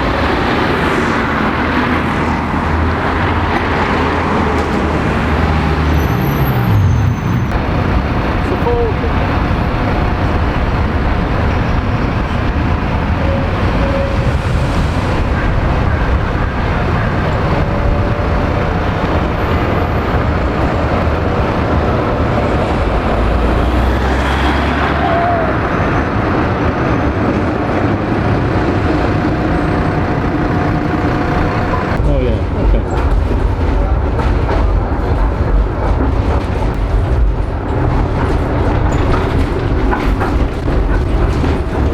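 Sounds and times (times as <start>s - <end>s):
large vehicle rumbling by: 0.0s - 41.9s
road traffic rumble: 0.0s - 41.9s.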